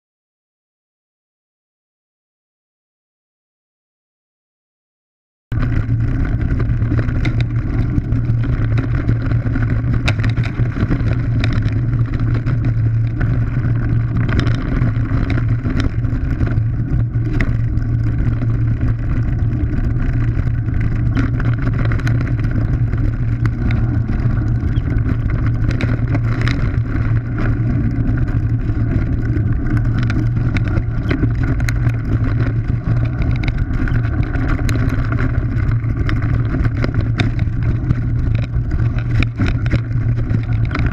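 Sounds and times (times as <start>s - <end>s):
bike rattling over stones: 5.5s - 40.9s
wind and riding noise: 5.5s - 40.9s.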